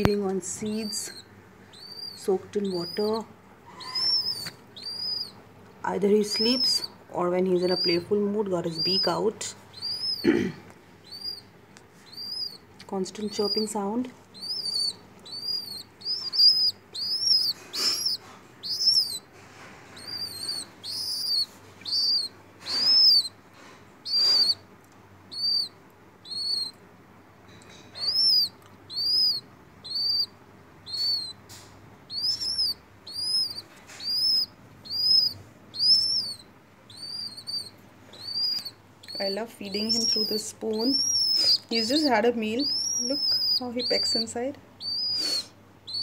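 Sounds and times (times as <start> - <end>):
baby pigeon peeping: 0.0 - 46.0.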